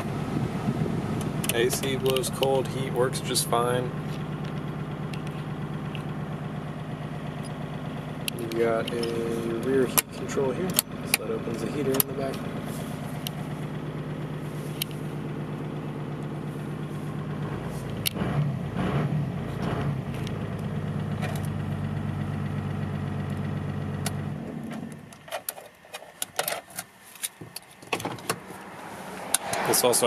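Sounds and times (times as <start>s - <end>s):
diesel engine idling: 0.0s - 25.2s.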